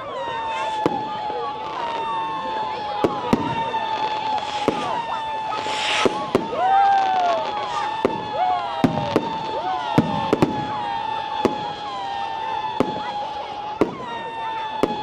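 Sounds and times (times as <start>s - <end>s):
whistling fireworks: 0.0s - 15.0s
firework bangs and cracks: 0.2s - 15.0s.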